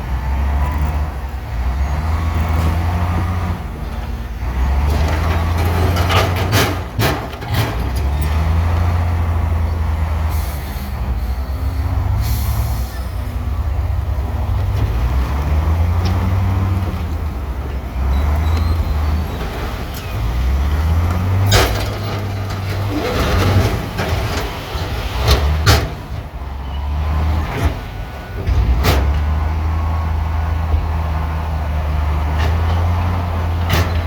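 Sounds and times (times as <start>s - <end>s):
bulldozer diesel engine rumbling: 0.0s - 34.0s.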